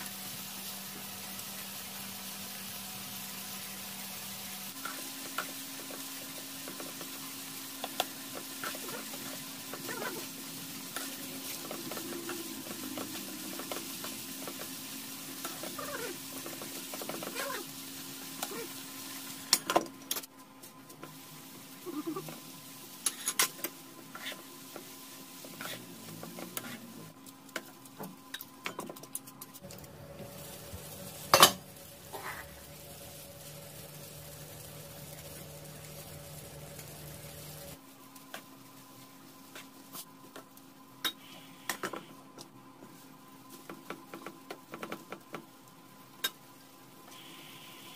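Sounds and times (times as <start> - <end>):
meat and vegetables sizzling: 0.0 - 28.7, 29.6 - 47.9.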